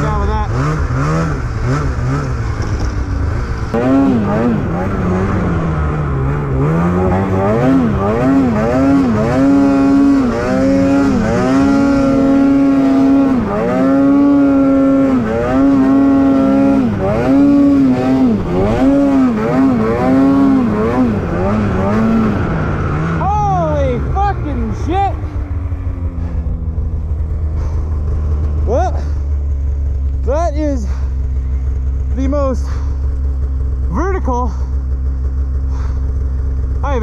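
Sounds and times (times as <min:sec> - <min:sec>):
snowmobile engine revving: 0:00.0 - 0:37.0.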